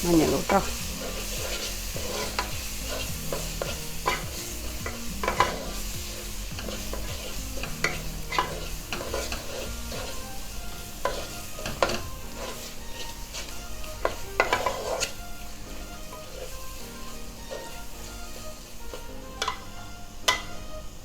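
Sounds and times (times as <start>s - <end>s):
light sizzle: 0.0s - 21.0s
spoon scraping a pan: 0.0s - 21.0s.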